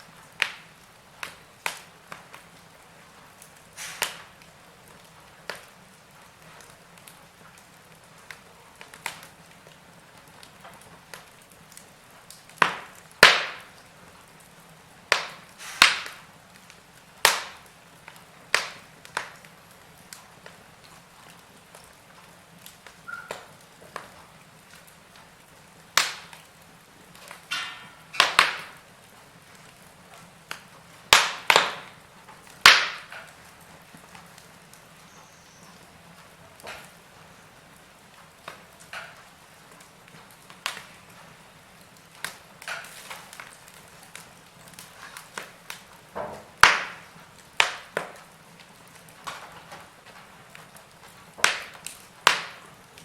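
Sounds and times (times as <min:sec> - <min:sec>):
faint steady hiss: 0:00.0 - 0:53.0
wood fire crackling: 0:00.0 - 0:53.0.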